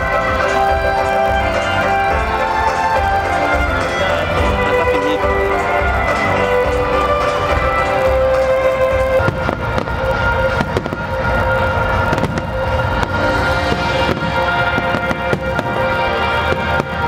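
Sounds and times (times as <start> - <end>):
fireworks cracking and popping: 0.0 - 17.0
loud music from sound system: 0.0 - 17.0.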